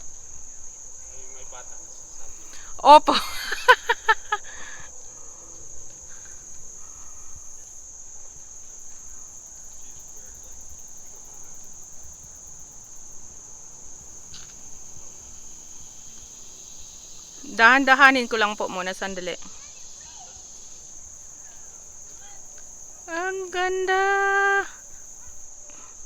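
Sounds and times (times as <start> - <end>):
insect chorus trilling: 0.0 - 26.0.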